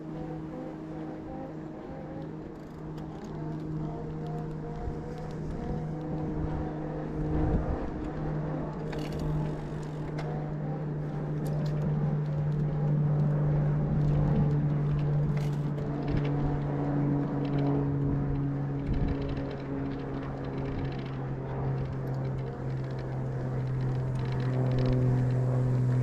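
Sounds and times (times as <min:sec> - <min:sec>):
electric bike motor whining: 0:00.0 - 0:26.0
wind and tyres rumbling: 0:00.0 - 0:26.0.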